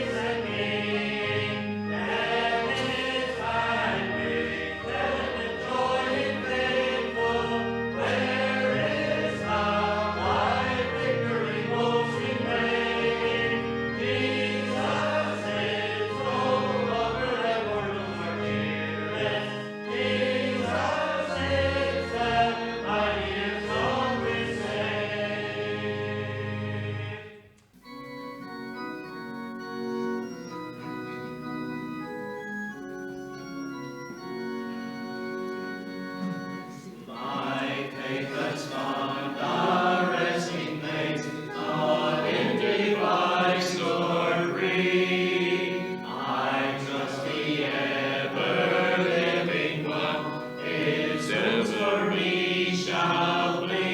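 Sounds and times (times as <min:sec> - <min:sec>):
congregation singing a hymn: 0:00.0 - 0:53.9
organ playing chords: 0:00.0 - 0:53.9.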